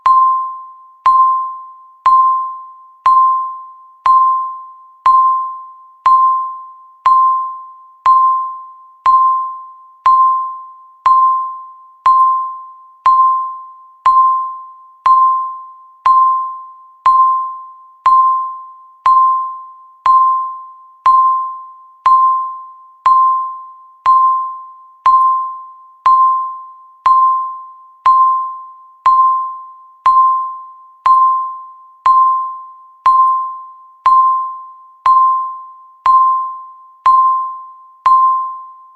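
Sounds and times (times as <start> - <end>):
bell-like timer beeps: 0.0 - 38.9.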